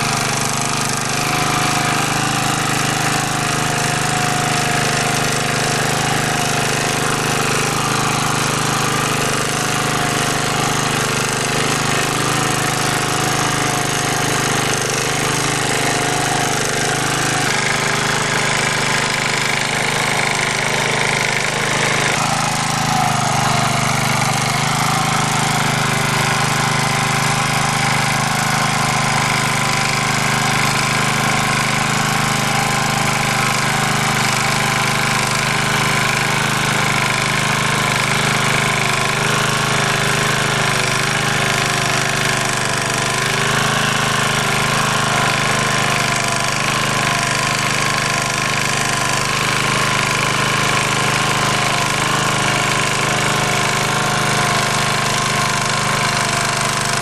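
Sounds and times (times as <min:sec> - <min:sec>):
rotary tiller working soil: 0:00.0 - 0:57.0
tractor engine running under load: 0:00.0 - 0:57.0.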